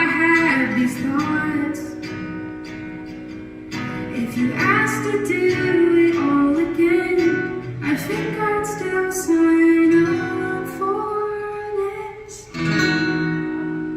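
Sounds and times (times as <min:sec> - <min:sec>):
guitar accompaniment: 0:00.0 - 0:13.9.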